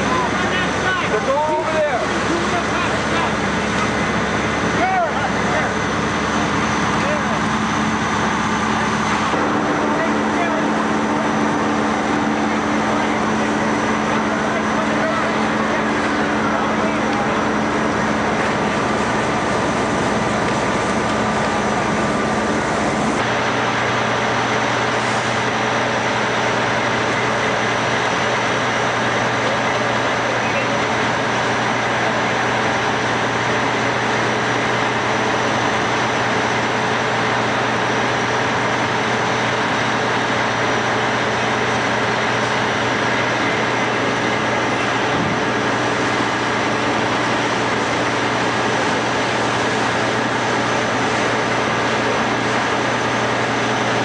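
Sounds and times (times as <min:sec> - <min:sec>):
loud engine drone: 0:00.0 - 0:54.0.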